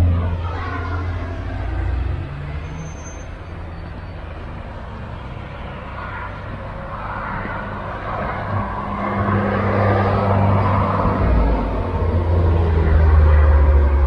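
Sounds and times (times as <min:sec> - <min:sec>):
vehicle driving past: 0:00.0 - 0:14.0.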